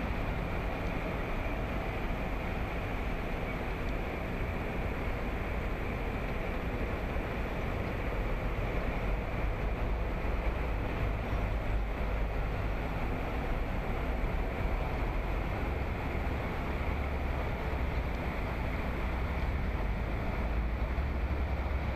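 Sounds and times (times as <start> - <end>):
wind rumble on microphone: 0.0 - 21.9.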